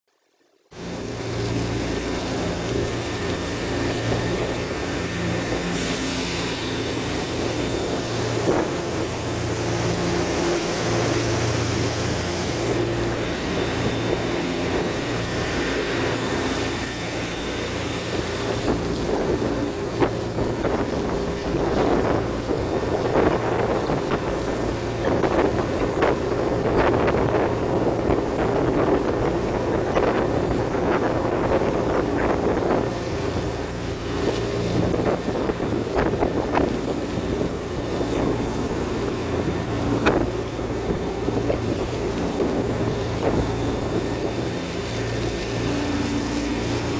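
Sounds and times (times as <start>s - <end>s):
boat engine drone: 0.2s - 46.9s
water rushing along hull: 0.2s - 46.9s.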